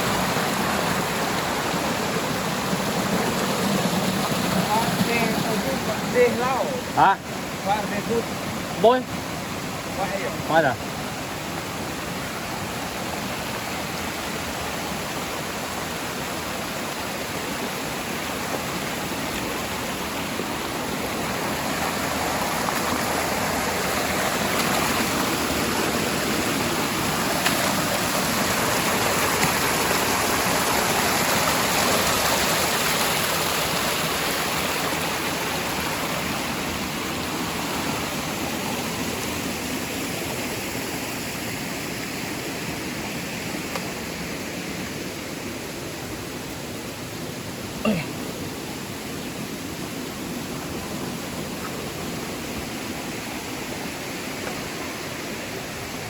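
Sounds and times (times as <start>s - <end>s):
rushing stream water: 0.0s - 56.0s.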